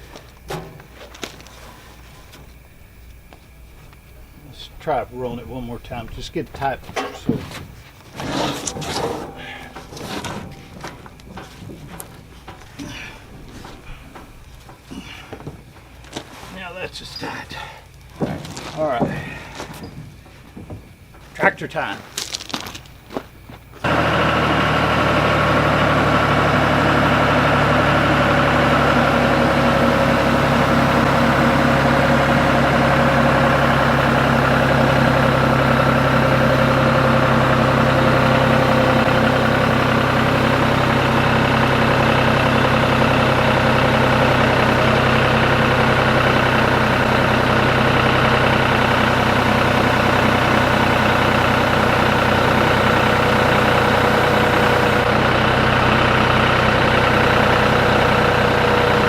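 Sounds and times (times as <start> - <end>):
tractor engine running: 0.0 - 16.2, 22.4 - 59.0.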